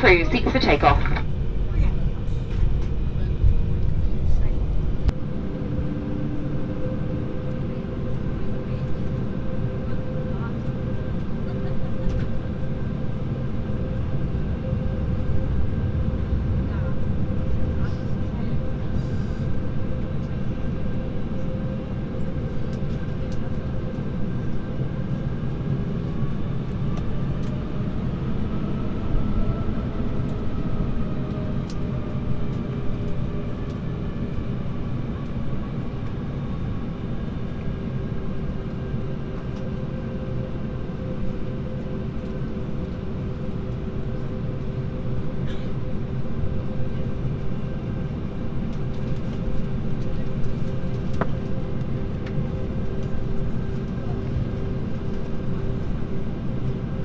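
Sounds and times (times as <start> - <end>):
jet engines idling in cabin: 0.0 - 57.0.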